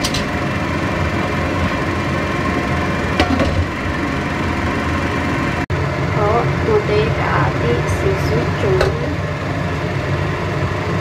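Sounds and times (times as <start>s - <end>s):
low hum: 0.0s - 11.0s
water boiling: 0.0s - 11.0s.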